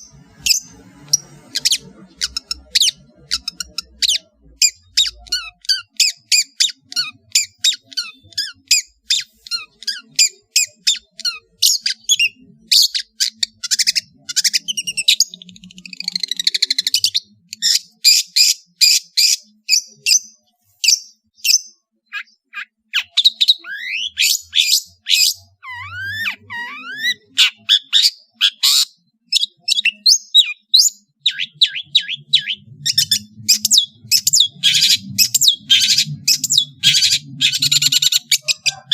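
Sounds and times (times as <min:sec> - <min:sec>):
bird chattering notes: 0:00.0 - 0:20.1, 0:20.9 - 0:38.9
buzzy bird trill: 0:00.0 - 0:38.9.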